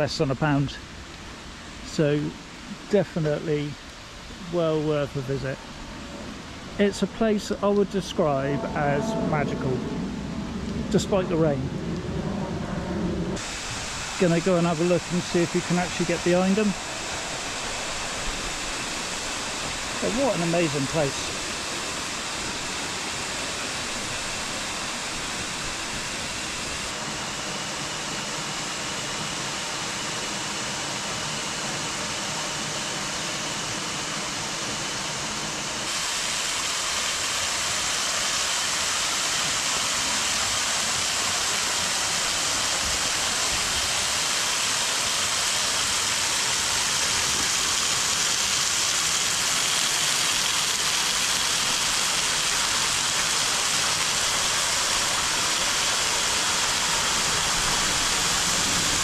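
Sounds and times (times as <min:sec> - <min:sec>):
waterfall rushing: 0:00.0 - 0:11.7, 0:13.4 - 0:59.0.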